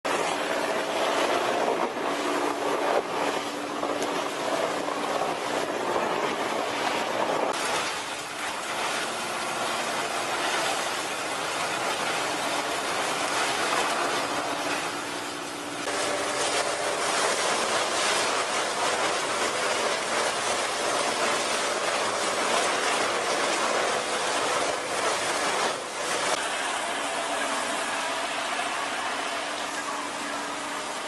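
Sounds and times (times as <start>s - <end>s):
wood chipper running: 0.1s - 31.0s.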